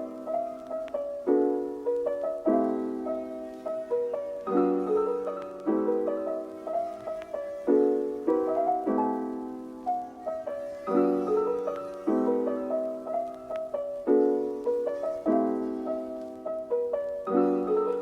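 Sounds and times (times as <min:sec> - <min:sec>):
gentle solo piano: 0:00.0 - 0:18.0.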